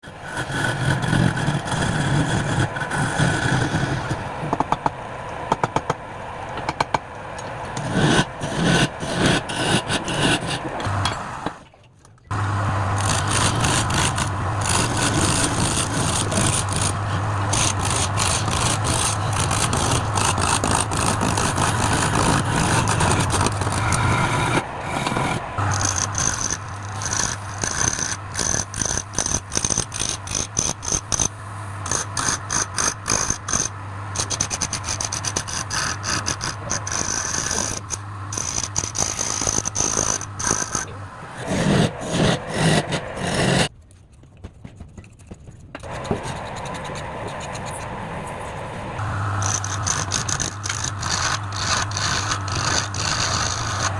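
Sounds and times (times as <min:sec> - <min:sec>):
turning tool scraping wood: 0:00.0 - 0:04.9, 0:07.7 - 0:11.5, 0:12.3 - 0:47.9, 0:49.0 - 0:53.9
lathe motor humming: 0:00.0 - 0:11.6, 0:12.3 - 0:43.7, 0:45.8 - 0:53.9.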